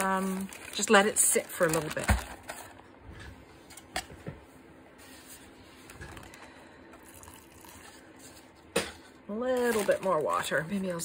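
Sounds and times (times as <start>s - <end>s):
plastic bag rustling: 0.0s - 2.9s, 5.0s - 11.0s.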